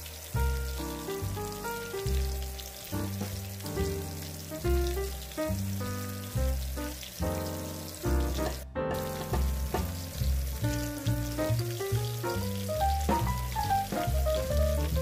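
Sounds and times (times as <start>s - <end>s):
food sizzling in hot oil: 0.0s - 15.0s
background music with bass line: 0.3s - 15.0s.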